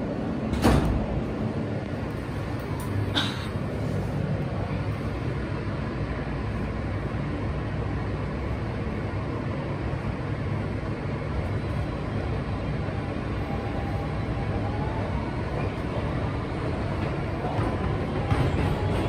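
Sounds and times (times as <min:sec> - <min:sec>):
subway car rumbling: 0:00.0 - 0:19.0.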